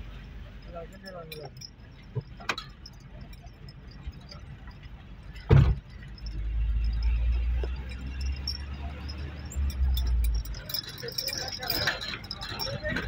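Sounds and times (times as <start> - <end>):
car rumbling over dirt track: 0.0 - 13.0
small rattles and clicks: 0.6 - 13.0.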